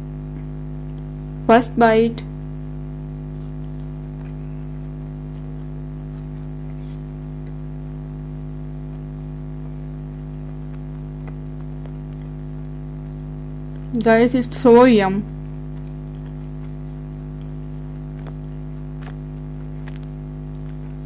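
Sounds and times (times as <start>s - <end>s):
steady low hum: 0.0s - 21.0s
mouth-close chewing: 0.2s - 1.5s, 2.5s - 21.0s.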